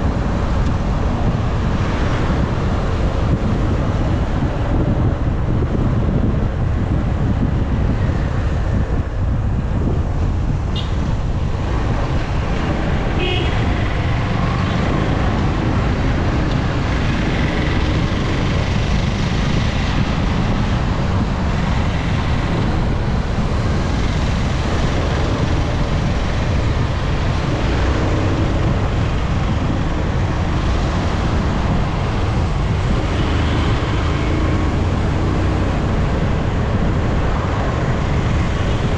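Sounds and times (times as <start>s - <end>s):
motorcycle engine and wind rumble: 0.0s - 38.9s.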